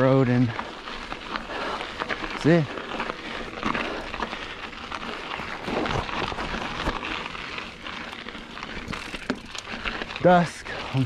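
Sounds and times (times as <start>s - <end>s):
bike tyres crunching on gravel: 0.0s - 11.0s.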